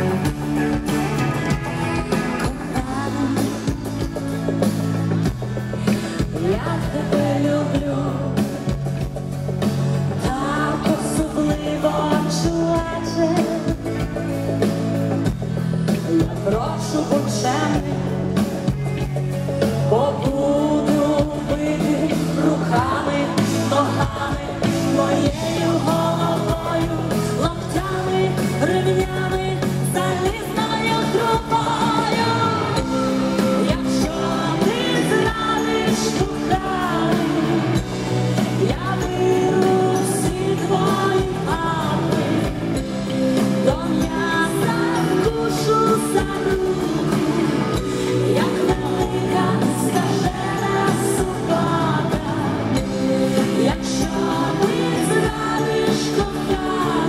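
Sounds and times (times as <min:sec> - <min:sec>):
live band playing pop-rock: 0:00.0 - 0:57.0
person singing lead: 0:02.0 - 0:04.6, 0:05.8 - 0:09.0, 0:10.1 - 0:14.2, 0:19.6 - 0:57.0.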